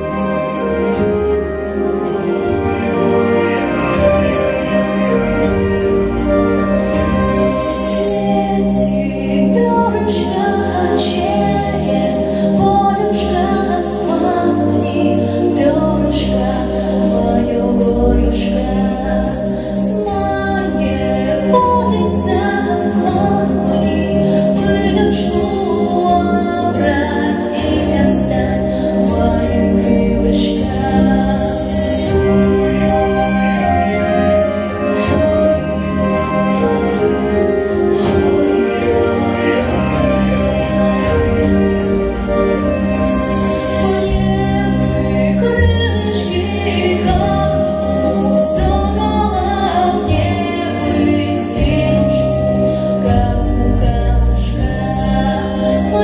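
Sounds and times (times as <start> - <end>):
instrumental music accompaniment: 0.0 - 56.0.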